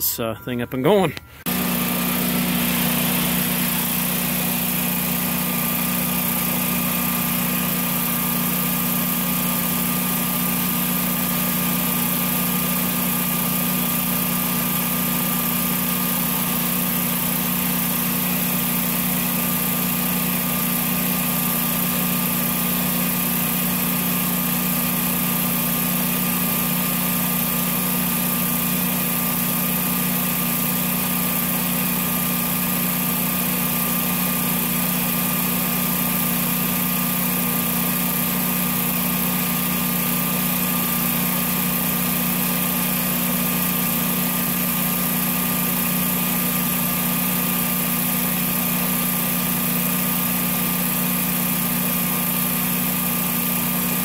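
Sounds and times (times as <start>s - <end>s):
generator engine humming: 0.0s - 54.0s.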